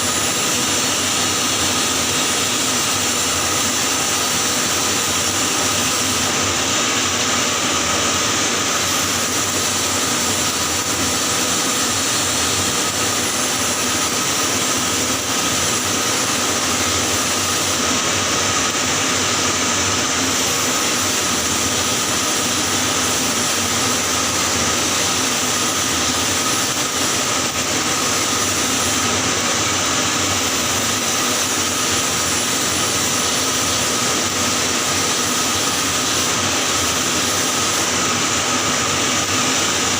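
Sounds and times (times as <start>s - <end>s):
welding arc hissing: 0.0s - 39.9s.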